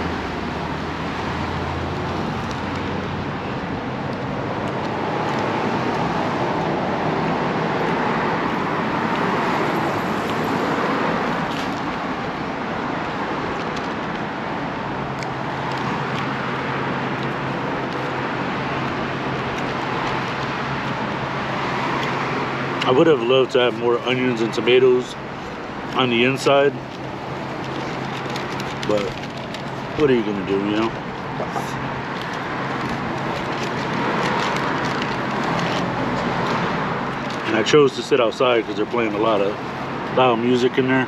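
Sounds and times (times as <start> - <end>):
road traffic rush: 0.0 - 41.0.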